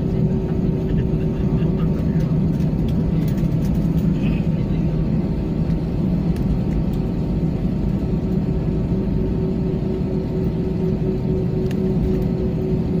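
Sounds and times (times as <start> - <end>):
jet engines rumbling: 0.0 - 13.0
low hum: 0.0 - 13.0.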